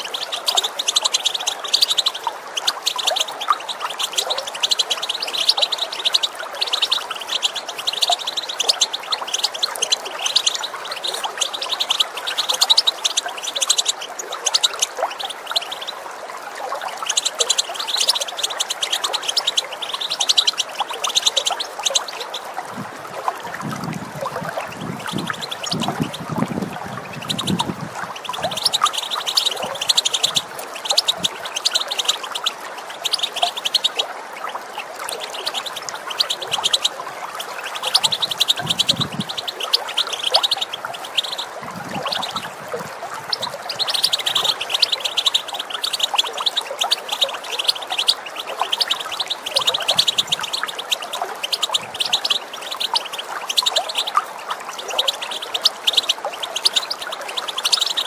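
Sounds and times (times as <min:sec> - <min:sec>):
goldfinch twittering chatter: 0:00.0 - 0:22.6, 0:23.2 - 0:58.0
running water: 0:00.0 - 0:58.0.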